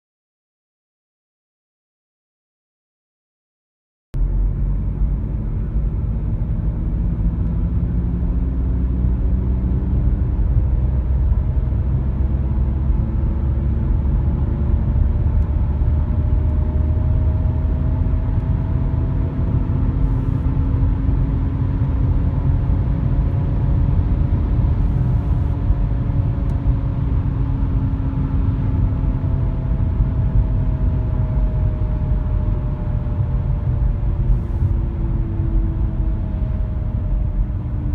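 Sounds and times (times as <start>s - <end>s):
car driving on road rumble: 4.2s - 37.9s.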